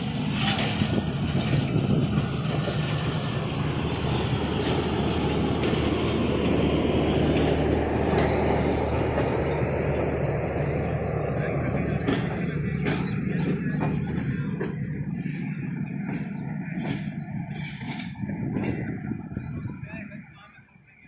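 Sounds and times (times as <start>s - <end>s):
train wheels rumbling on rails: 0.0s - 20.5s.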